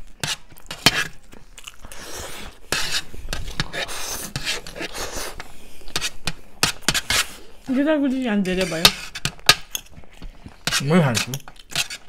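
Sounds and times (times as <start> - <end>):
chewing noodles: 0.0 - 7.7, 9.6 - 12.0.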